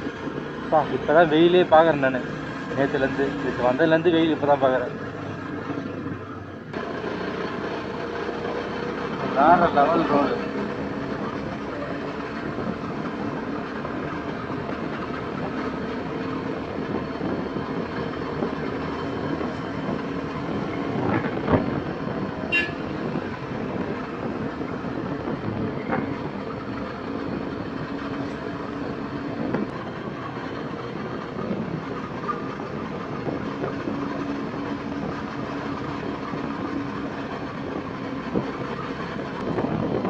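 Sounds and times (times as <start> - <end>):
road and air noise: 0.0 - 40.0.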